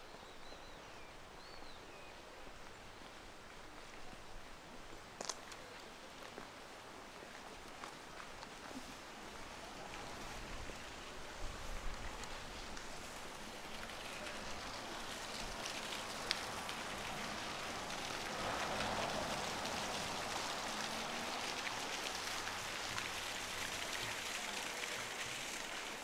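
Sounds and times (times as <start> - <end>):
falling water patter: 2.6 - 26.0.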